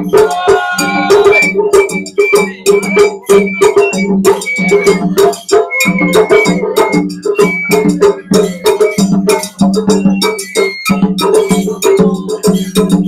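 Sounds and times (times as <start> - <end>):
taiko drums beating: 0.0 - 13.0.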